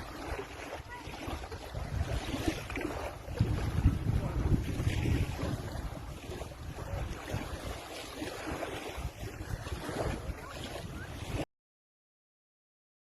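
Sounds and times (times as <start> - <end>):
wind buffeting microphone: 0.0 - 11.4
water rushing: 0.0 - 11.5.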